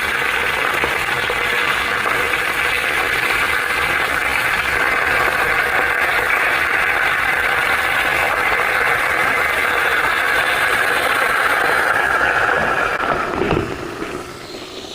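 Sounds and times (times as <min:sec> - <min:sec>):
pressure cooker valve hissing: 0:00.0 - 0:14.9.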